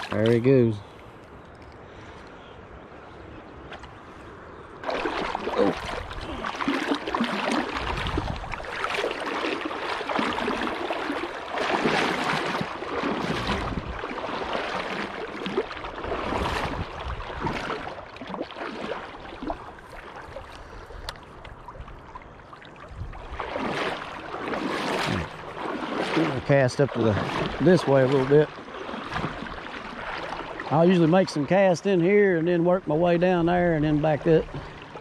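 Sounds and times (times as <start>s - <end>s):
water splashing around legs: 0.0s - 0.7s, 4.8s - 35.0s.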